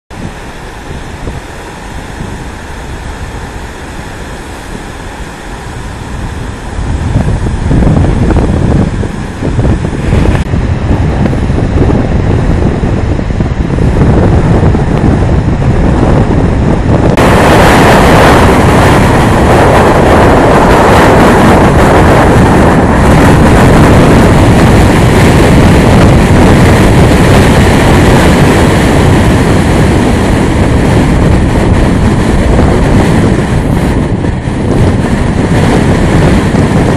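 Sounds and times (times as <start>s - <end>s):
wind buffeting microphone: 0.1s - 36.9s.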